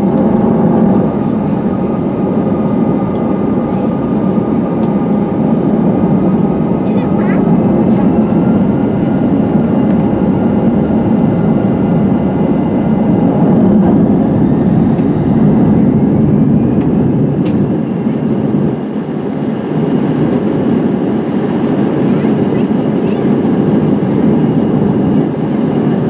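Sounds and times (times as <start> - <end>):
faint engine whine: 0.0 - 26.0
jet engine cabin rush: 0.0 - 26.0.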